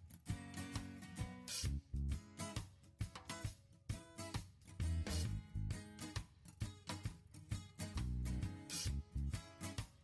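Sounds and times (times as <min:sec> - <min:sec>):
strummed guitar: 0:00.0 - 0:10.0.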